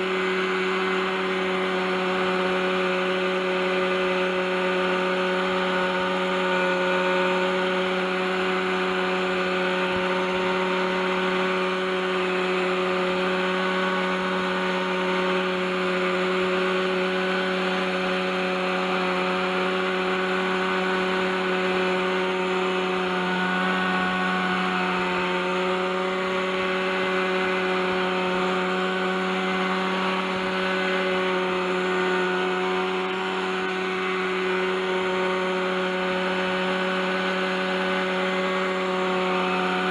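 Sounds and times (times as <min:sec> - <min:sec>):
model helicopter engine running: 0:00.0 - 0:39.9.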